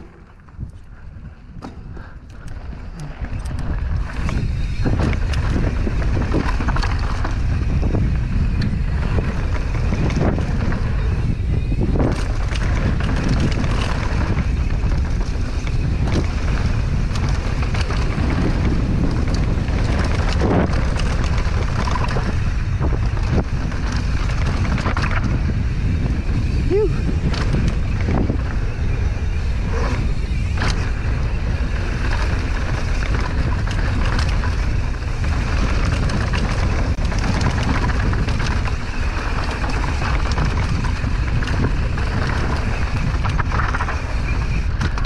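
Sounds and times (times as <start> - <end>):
bike rattling and knocking: 0.0 - 45.0
wind buffeting microphone: 0.0 - 45.0.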